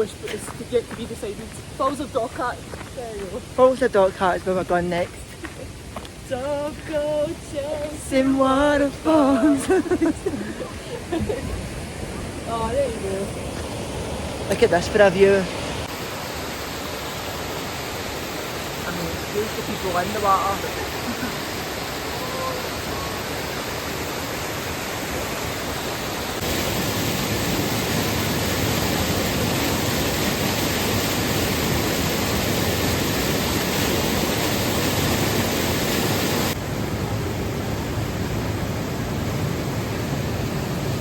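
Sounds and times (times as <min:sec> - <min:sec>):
waterfall rushing: 0:05.3 - 0:41.0.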